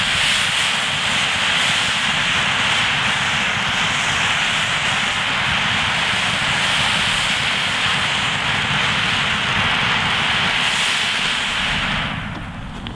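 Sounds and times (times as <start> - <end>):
fountain firework hissing: 0.0 - 12.9.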